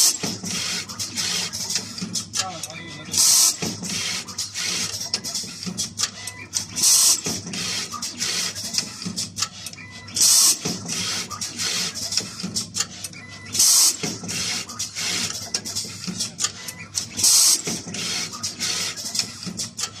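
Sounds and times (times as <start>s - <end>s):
rapid machine clicking and clatter: 0.0s - 20.0s.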